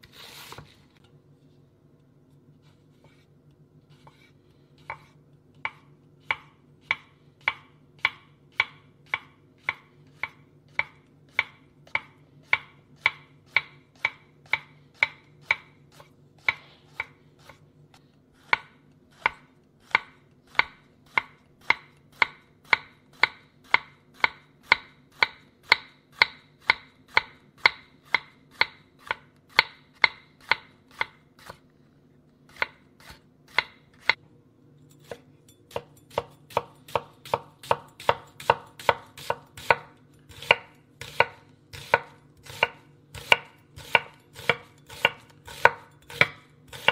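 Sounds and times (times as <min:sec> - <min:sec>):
knife chopping on cutting board: 0:03.9 - 0:31.7, 0:32.5 - 0:34.2, 0:35.0 - 0:46.9.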